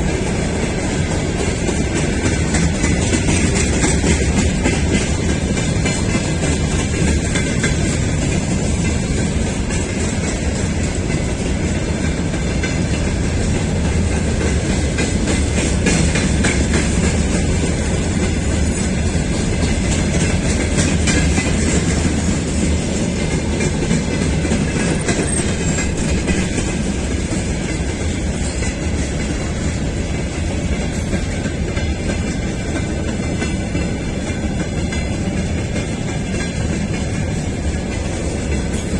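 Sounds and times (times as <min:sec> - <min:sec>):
freight train wheels clattering: 0:00.0 - 0:38.9
low train rumble: 0:00.0 - 0:38.9.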